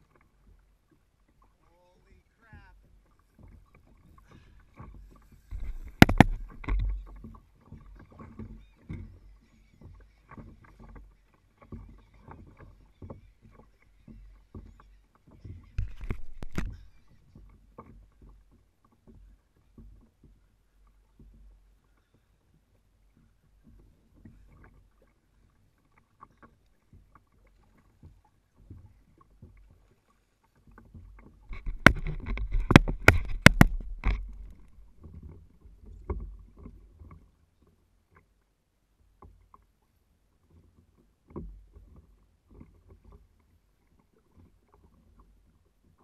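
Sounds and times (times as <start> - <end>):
water sloshing on hull: 0.0 - 46.0
small knocks on hull: 2.5 - 38.3, 40.4 - 46.0.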